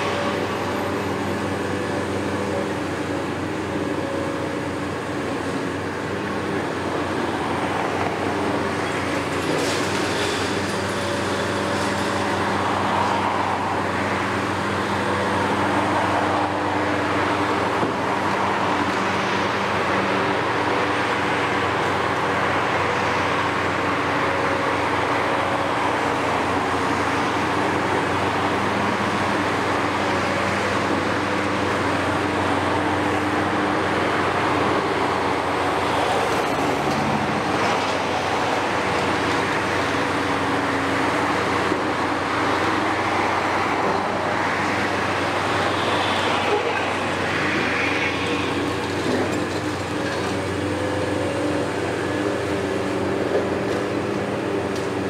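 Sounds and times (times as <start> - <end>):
excavator engines running: 0.0 - 55.0.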